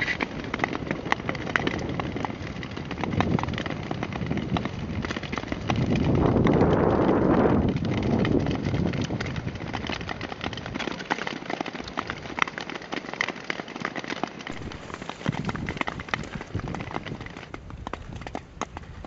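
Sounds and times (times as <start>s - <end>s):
skates scraping over ice: 0.0s - 19.0s.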